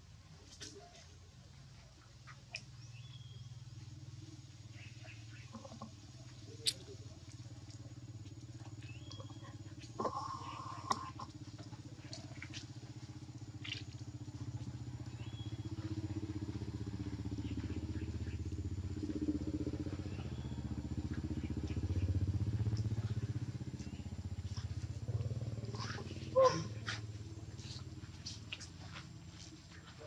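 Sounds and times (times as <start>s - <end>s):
small engine rumbling: 0.0s - 30.0s.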